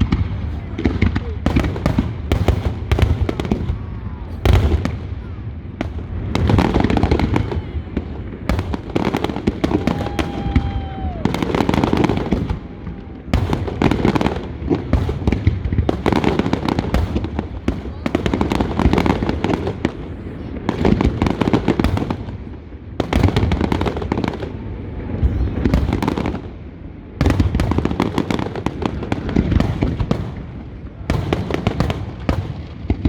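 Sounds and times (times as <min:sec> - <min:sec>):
fireworks bangs and crackling: 0:00.0 - 0:33.0.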